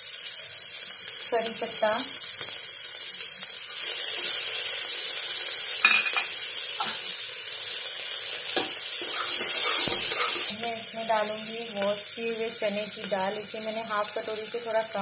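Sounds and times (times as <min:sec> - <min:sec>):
spices sizzling in hot ghee: 0:00.0 - 0:15.0.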